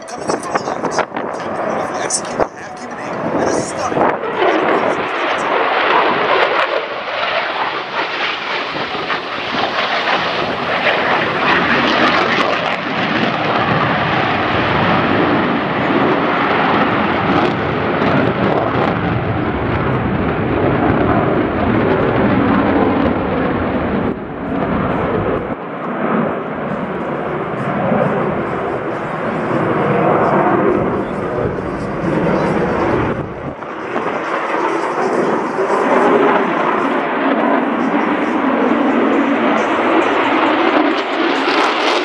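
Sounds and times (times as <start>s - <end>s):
fighter jet roaring past: 0.0s - 42.0s.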